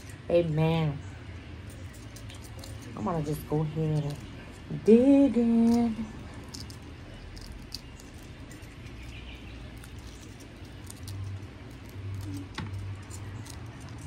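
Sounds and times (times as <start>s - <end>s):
faint low hum: 0.0s - 14.0s
shrimp shells being peeled: 1.5s - 4.8s, 5.4s - 14.0s.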